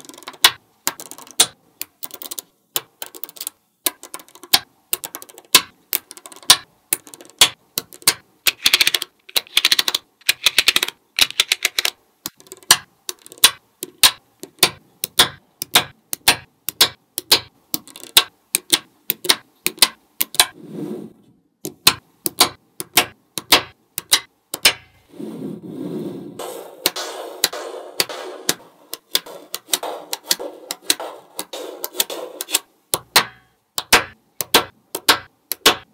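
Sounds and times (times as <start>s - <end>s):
magnetic balls clicking: 0.0s - 20.6s, 21.6s - 25.1s, 26.8s - 35.9s.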